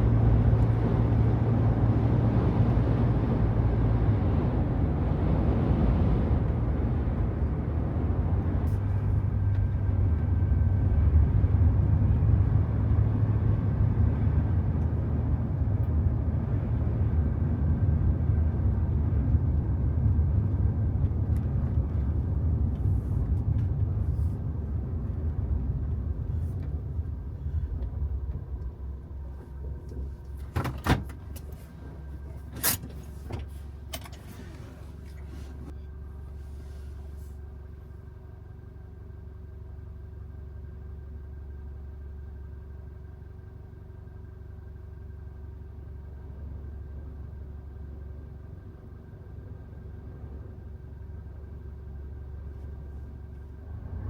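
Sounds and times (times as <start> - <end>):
van engine rumble: 0.0 - 54.0.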